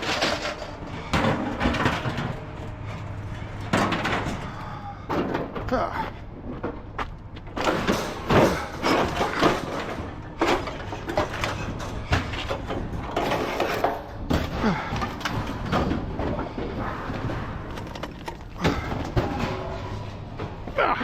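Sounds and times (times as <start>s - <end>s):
scrap metal clanking: 0.0s - 5.8s, 7.5s - 20.7s.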